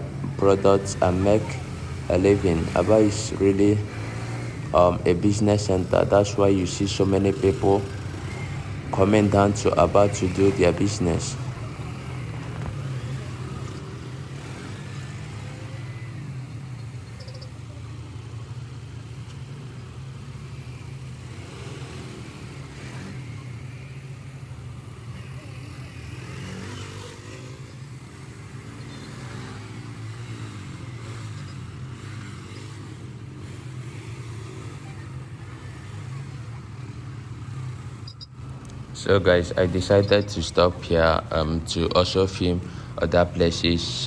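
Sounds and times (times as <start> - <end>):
car engine humming: 0.0 - 44.0
street traffic: 0.0 - 44.0.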